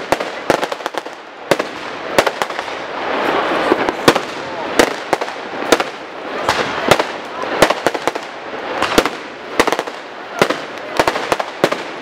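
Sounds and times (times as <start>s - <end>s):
fireworks bangs: 0.0s - 12.0s
fireworks crackle: 0.0s - 12.0s.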